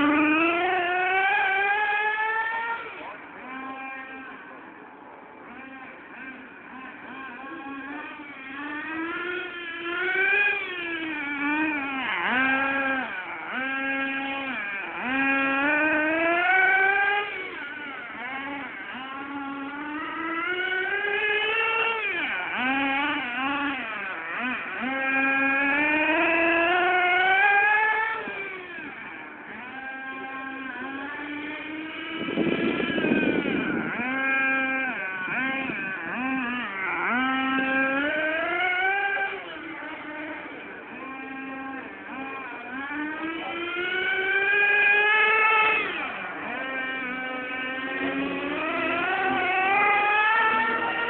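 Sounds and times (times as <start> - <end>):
small engine revving: 0.0 - 51.0.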